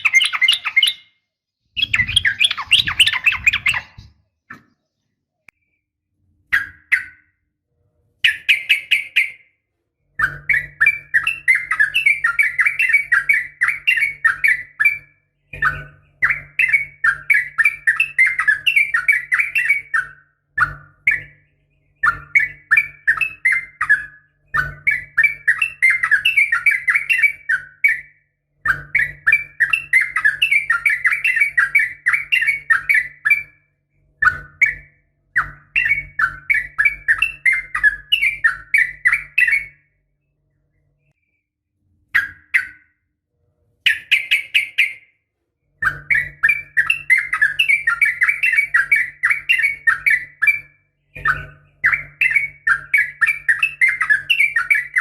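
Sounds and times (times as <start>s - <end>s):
bird singing rapid bubbling chatter: 0.0s - 7.4s, 8.2s - 40.0s, 43.8s - 55.0s.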